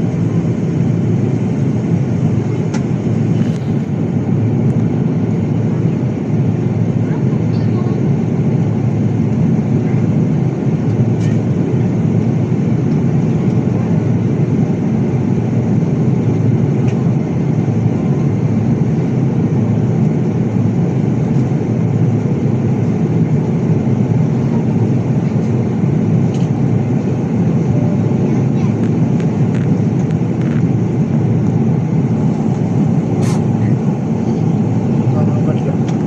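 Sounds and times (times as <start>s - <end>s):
jet engine and airflow rush: 0.0s - 36.0s.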